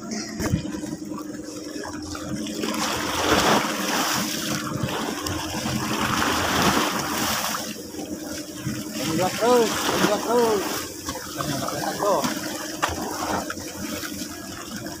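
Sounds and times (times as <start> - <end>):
sea water rushing and splashing: 0.0 - 15.0.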